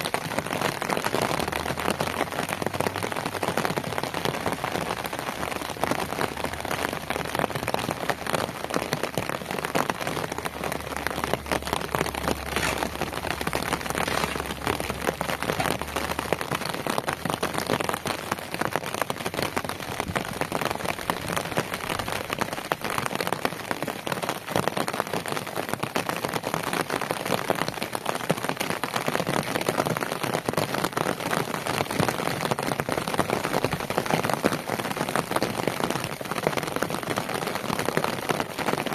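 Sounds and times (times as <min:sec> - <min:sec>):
steady rain on wet ground: 0:00.0 - 0:38.9.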